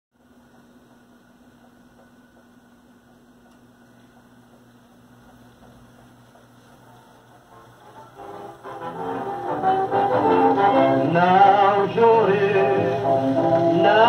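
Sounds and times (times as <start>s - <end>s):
faint mains hum with hiss: 0.2s - 14.0s.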